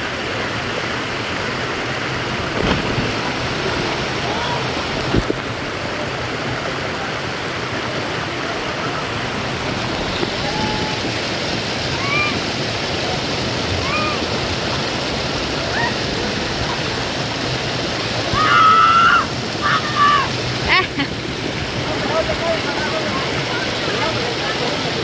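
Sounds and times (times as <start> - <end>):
waterfall pouring into a pool: 0.0 - 25.0.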